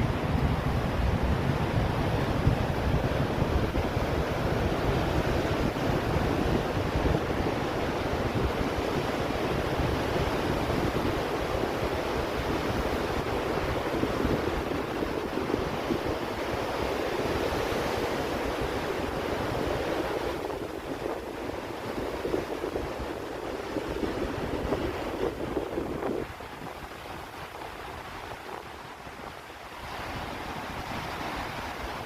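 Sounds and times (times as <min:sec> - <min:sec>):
ocean surf washing onto beach: 0:00.0 - 0:32.0
wind buffeting microphone: 0:00.0 - 0:32.0.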